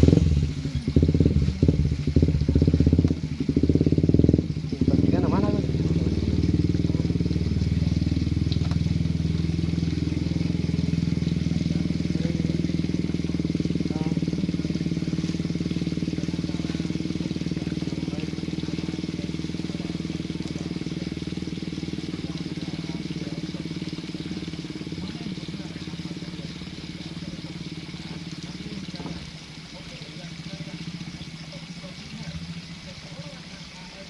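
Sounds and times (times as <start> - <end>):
small engine running steadily: 0.0 - 34.0.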